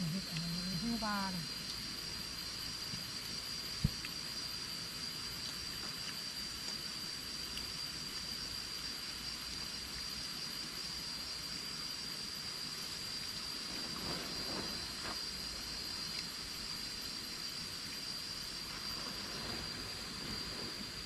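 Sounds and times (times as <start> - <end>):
even hiss: 0.0 - 21.0
high-pitched insect drone: 0.0 - 21.0.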